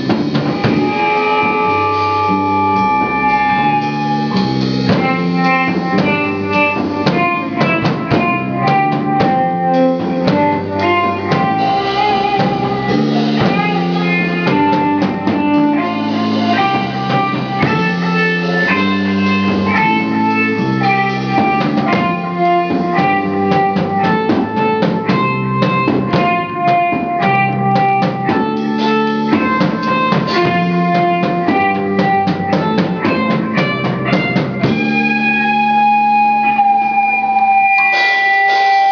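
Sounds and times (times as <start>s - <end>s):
bass guitar: 0.0s - 38.9s
drum kit steady beat: 0.0s - 38.9s
electric guitar lead: 0.0s - 38.9s.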